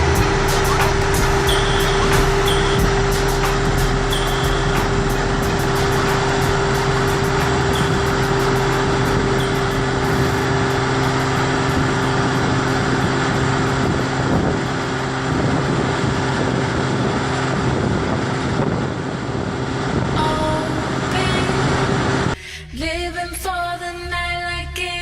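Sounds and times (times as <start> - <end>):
diesel engine running under load: 0.0 - 23.2.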